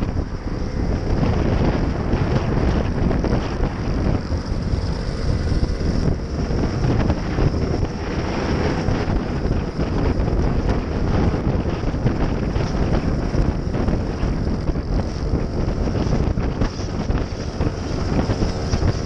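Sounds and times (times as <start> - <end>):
scooter engine: 0.0 - 19.0
wind buffeting microphone: 0.0 - 19.0.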